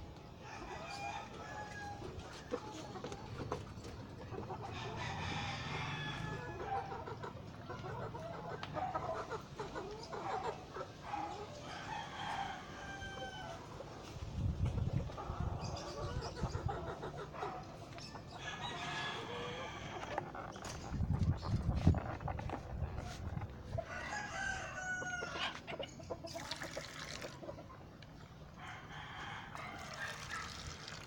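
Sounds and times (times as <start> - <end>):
fowl crowing and clucking: 0.3 - 26.5, 28.4 - 30.5.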